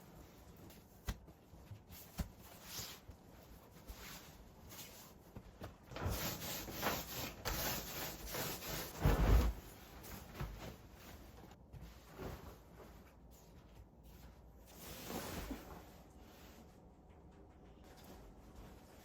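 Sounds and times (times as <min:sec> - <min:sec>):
rubbing and scraping handling noise: 0:00.0 - 0:16.9.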